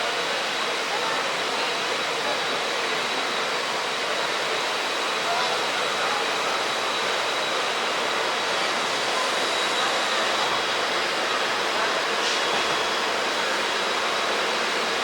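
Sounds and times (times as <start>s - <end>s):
train running at speed: 0.0s - 15.0s.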